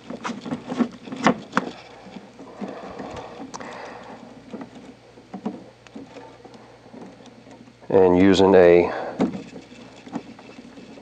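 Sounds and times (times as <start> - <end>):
wires rustling: 0.0 - 11.0.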